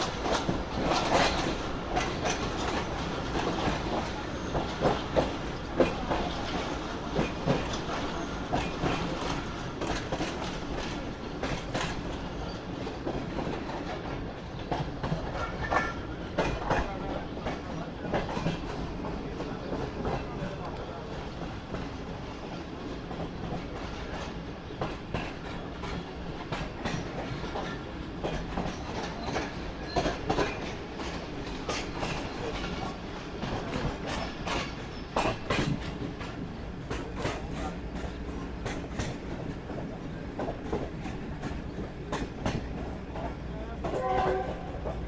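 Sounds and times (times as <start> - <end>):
train rumbling: 0.0 - 45.0
train wheels clicking on rails: 0.0 - 45.0.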